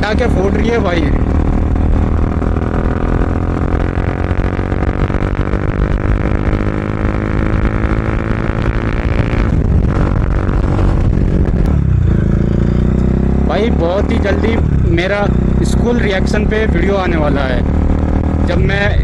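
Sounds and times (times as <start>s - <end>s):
motorcycle engine exhaust note: 0.0s - 19.0s.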